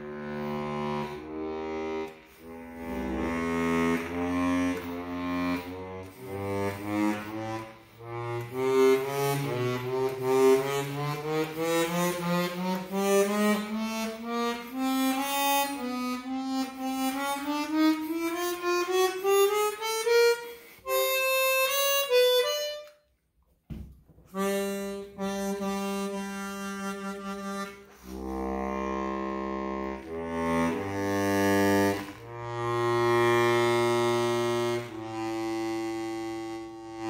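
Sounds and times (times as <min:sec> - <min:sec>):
harmonica playing: 0:00.0 - 0:23.1, 0:24.3 - 0:37.0.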